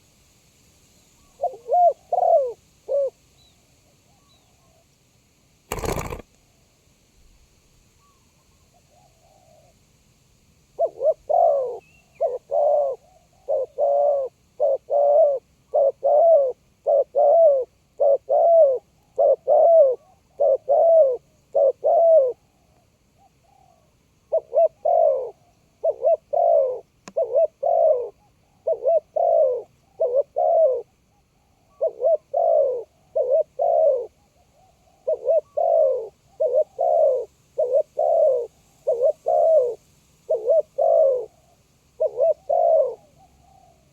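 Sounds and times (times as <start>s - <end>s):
dove cooing: 1.4s - 3.2s, 5.7s - 6.2s, 10.8s - 43.9s.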